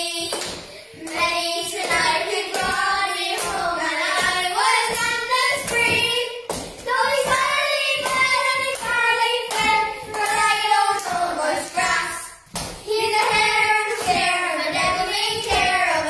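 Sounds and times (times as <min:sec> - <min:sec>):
children singing together: 0:00.0 - 0:16.0
hand claps: 0:00.2 - 0:16.0.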